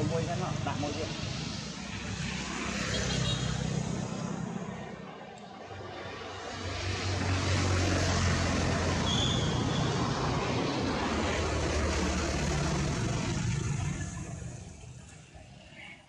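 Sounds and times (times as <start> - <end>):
motor vehicle engine passing: 0.0 - 15.7.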